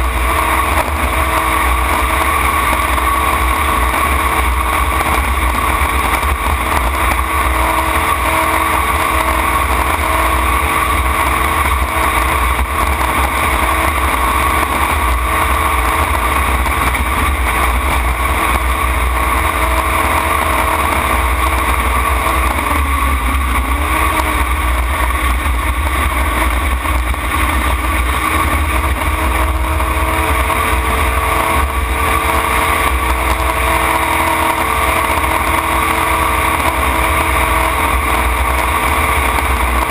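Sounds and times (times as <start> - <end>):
jet boat engine droning: 0.0 - 39.9.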